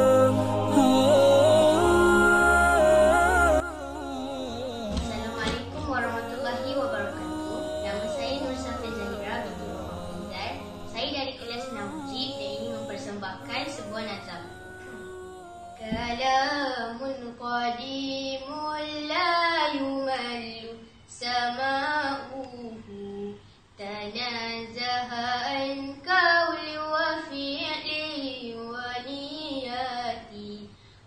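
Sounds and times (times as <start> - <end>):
girl chanting: 4.4 - 30.7.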